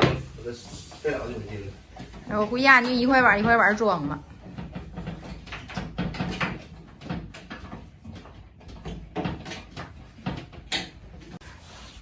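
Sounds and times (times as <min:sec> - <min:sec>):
wooden panels knocking and scraping: 0:00.0 - 0:11.5.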